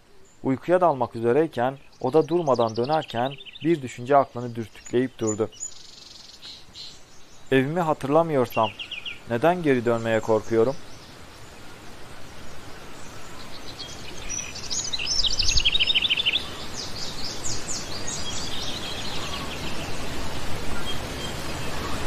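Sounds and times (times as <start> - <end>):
birds chirping in trills: 0.0 - 22.0
steady background hiss: 0.0 - 22.0.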